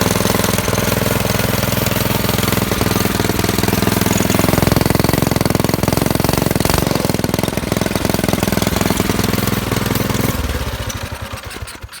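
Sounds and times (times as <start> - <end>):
minibike engine running: 0.0 - 12.0.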